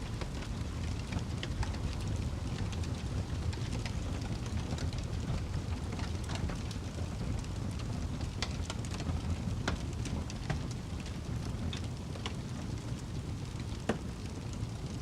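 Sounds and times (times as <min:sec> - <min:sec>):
fire crackling and popping: 0:00.0 - 0:15.0
low steady fire rumble: 0:00.0 - 0:15.0.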